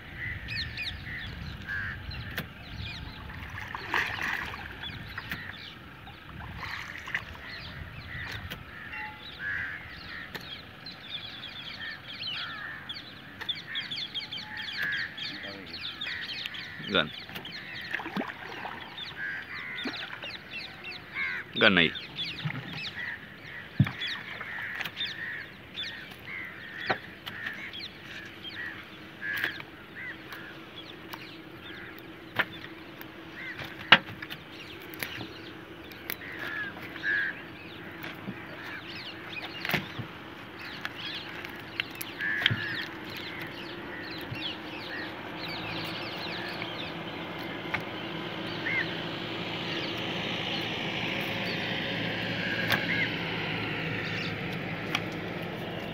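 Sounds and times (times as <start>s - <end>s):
birds calling: 0.0s - 55.9s.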